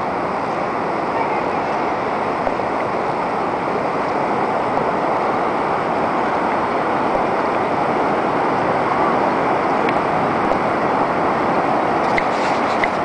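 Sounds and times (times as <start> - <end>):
surf rushing on beach: 0.0 - 13.0.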